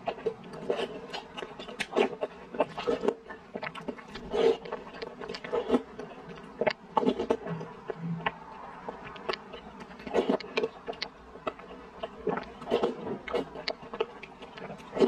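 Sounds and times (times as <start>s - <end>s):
slurping and chewing: 0.0s - 15.0s.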